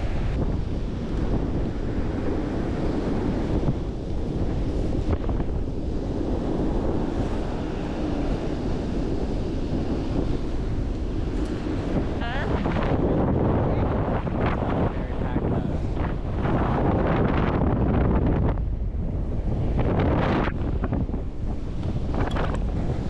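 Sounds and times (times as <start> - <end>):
wind blowing across microphone: 0.0 - 23.0.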